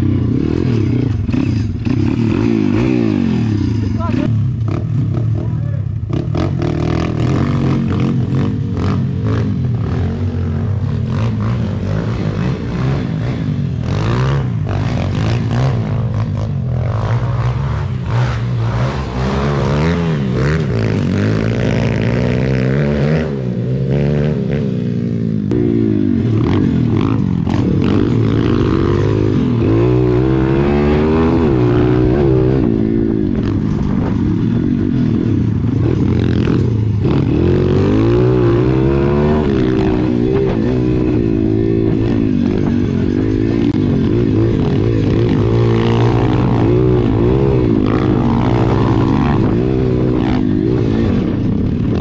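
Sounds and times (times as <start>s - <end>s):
motorbike engine revving: 0.0s - 52.0s.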